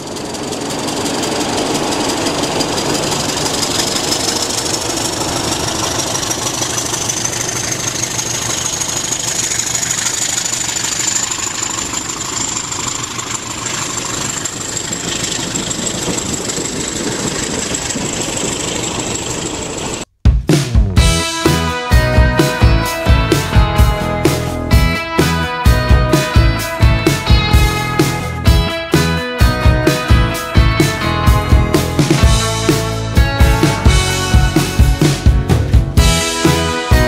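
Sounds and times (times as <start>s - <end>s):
engine idling: 0.0s - 20.1s, 21.0s - 37.0s.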